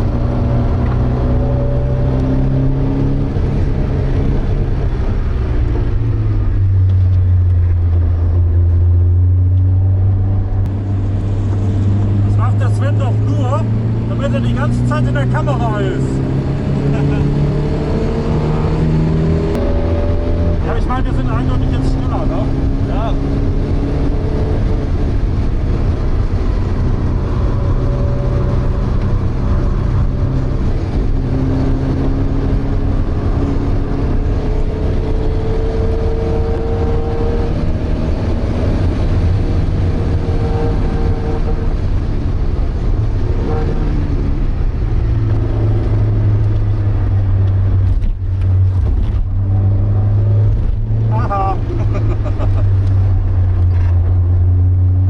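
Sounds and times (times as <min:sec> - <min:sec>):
car engine revving inside cabin: 0:00.0 - 0:55.0.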